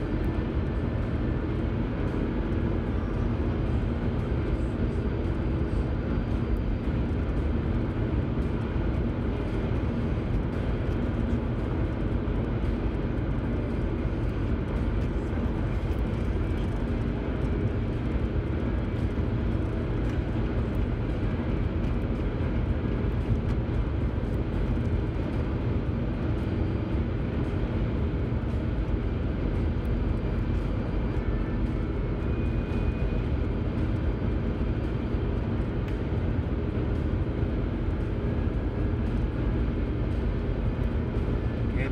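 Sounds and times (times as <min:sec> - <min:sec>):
car tyre and engine rumble: 0:00.0 - 0:41.9.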